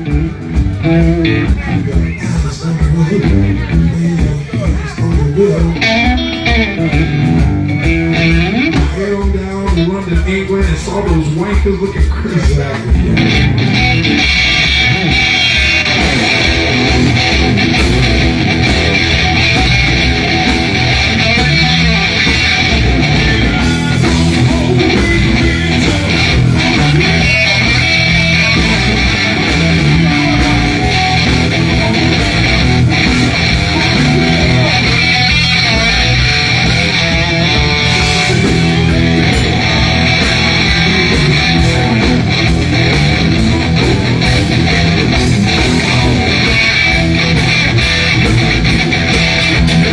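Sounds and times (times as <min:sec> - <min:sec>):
bass guitar: 0:00.0 - 0:49.9
drums: 0:00.0 - 0:49.9
electric guitar: 0:00.0 - 0:49.9.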